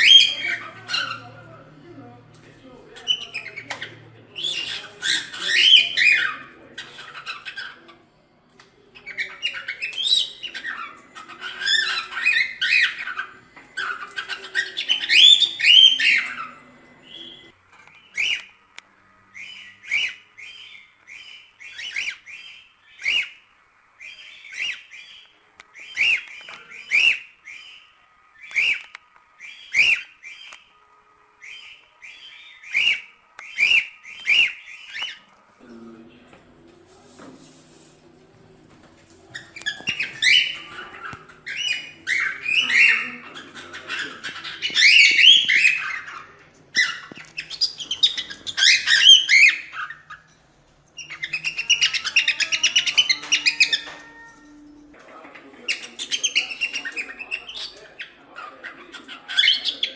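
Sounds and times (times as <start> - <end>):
cockatiel chirping and warbling: 0.0 - 1.4, 3.0 - 8.0, 9.0 - 18.5, 19.3 - 23.4, 24.0 - 30.6, 31.4 - 35.3, 39.2 - 50.4, 51.0 - 54.6, 55.6 - 59.9.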